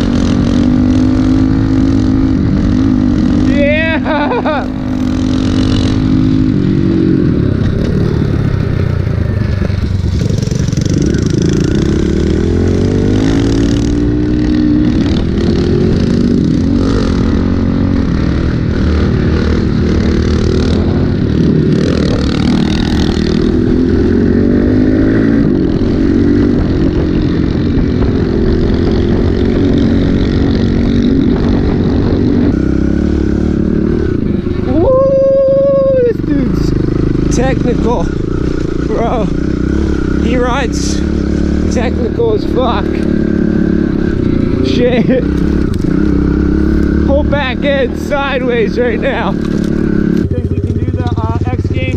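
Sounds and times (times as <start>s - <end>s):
small motorbike engine revving: 0.0s - 51.9s.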